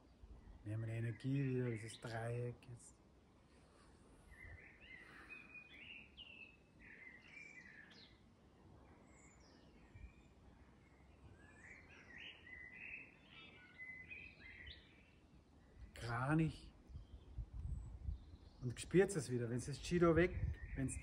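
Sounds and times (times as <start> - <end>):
faint birdsong chirping: 0.0 - 21.0.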